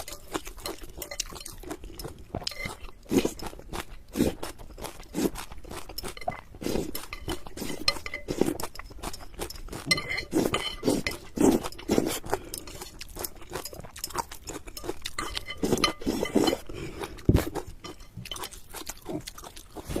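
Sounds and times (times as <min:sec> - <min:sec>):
chewing noodles: 0:00.0 - 0:20.0
utensils clinking against a bowl: 0:00.0 - 0:20.0.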